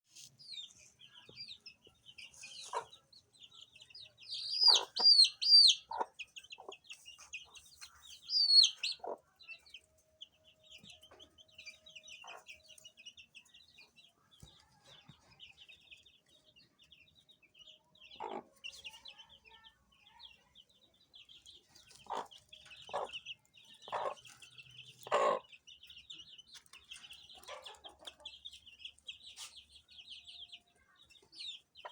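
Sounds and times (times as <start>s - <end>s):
baby chicks peeping: 0.1s - 31.9s.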